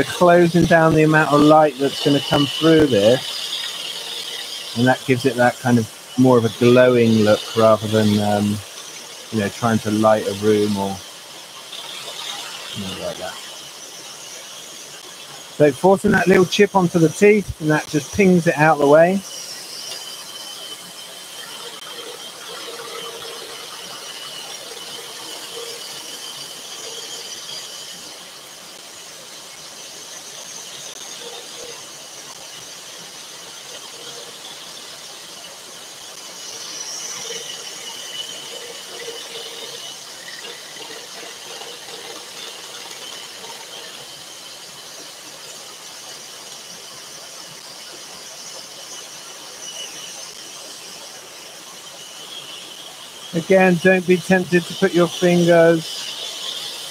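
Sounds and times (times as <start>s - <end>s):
scroll saw cutting wood: 0.0s - 56.9s.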